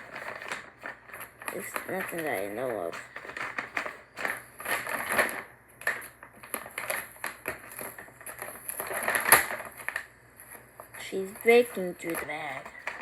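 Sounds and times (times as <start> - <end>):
bag crackling and rustling: 0.0 - 13.0
cats scratching at bag: 0.0 - 13.0.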